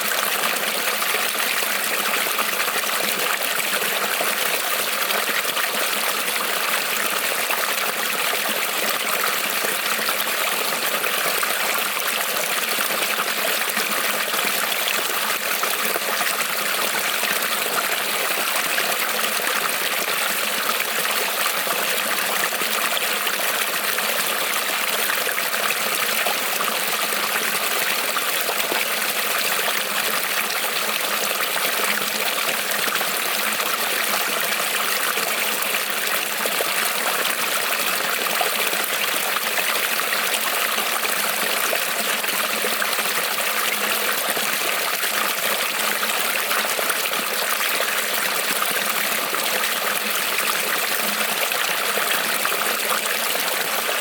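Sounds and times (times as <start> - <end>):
creek rippling over stones: 0.0 - 54.0.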